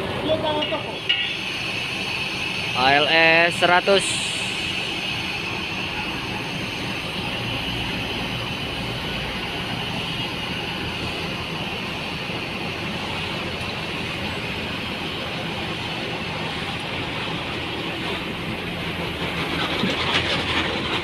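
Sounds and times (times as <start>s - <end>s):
bus diesel engine humming: 0.0s - 21.0s.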